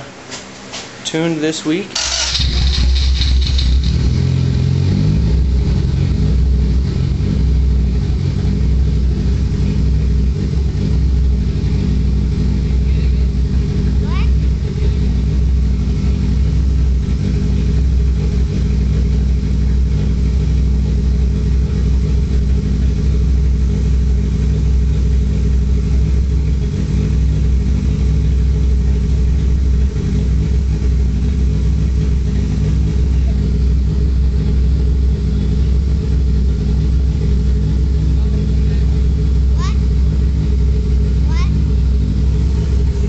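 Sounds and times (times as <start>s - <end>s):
car engine idling: 1.1s - 43.0s.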